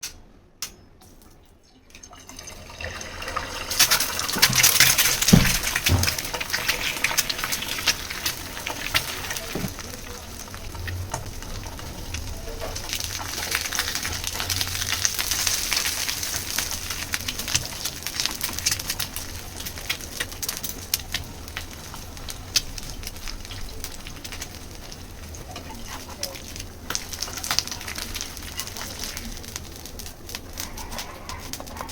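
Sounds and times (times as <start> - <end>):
egg sizzling in hot oil: 1.8 - 31.9.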